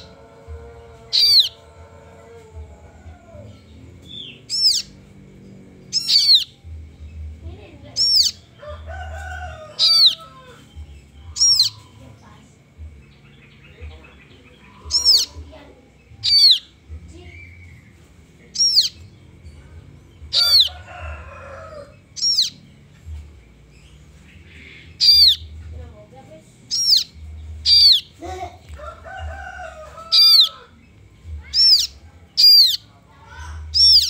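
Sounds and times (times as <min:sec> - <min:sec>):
nestlings chirping: 0:00.0 - 0:34.0.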